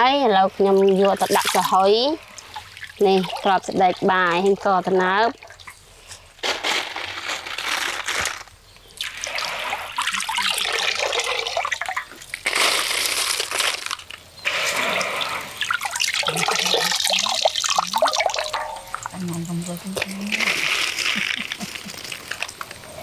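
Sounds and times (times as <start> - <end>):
water streaming and dripping: 0.0 - 6.4, 8.7 - 23.0.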